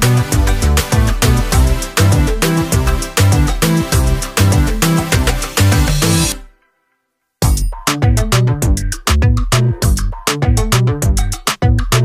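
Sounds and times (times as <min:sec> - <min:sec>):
deep bass line: 0:00.0 - 0:06.4, 0:07.4 - 0:12.0
drum beat: 0:00.0 - 0:06.4, 0:07.4 - 0:12.0.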